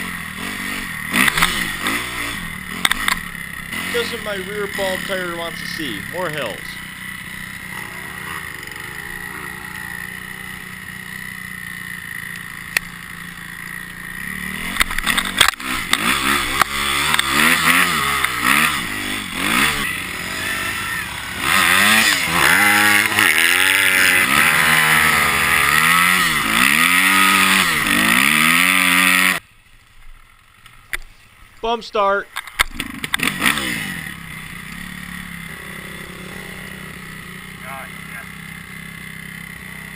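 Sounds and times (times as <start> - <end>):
dirt bike engine revving: 0.0 - 29.5, 32.5 - 39.9.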